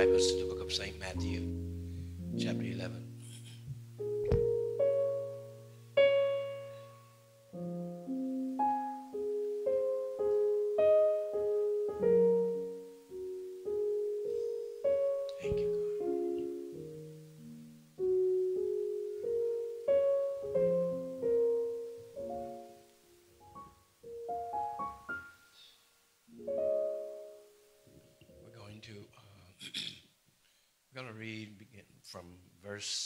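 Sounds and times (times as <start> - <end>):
soft piano chords and notes: 0.0 - 29.3.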